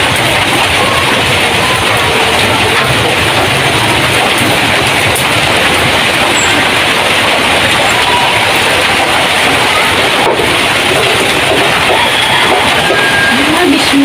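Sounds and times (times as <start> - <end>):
heavy rain on a tin roof: 0.0 - 14.0.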